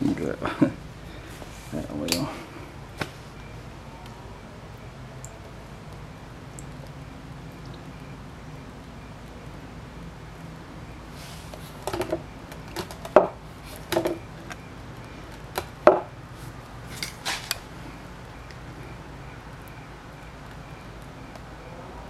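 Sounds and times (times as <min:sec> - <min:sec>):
low steady background hum: 0:00.0 - 0:22.0.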